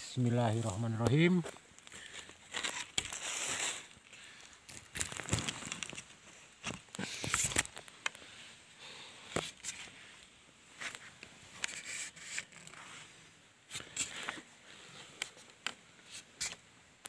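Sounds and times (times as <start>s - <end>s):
rustling and scraping on bamboo: 0.0s - 16.7s.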